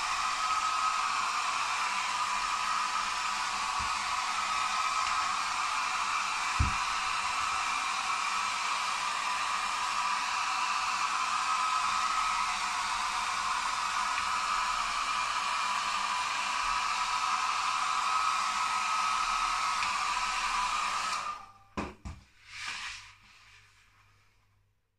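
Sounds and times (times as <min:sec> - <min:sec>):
hair dryer blowing: 0:00.0 - 0:22.9.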